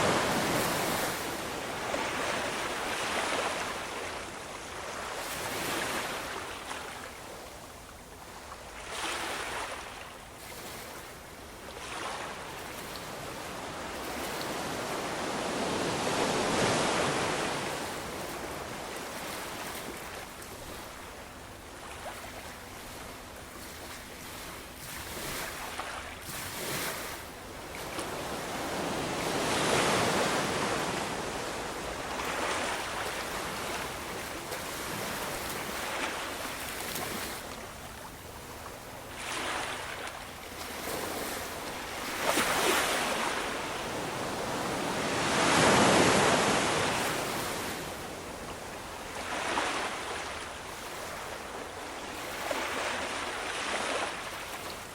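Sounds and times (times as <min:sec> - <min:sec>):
ocean waves breaking: 0:00.0 - 0:07.0, 0:11.8 - 0:48.5, 0:49.1 - 0:54.8.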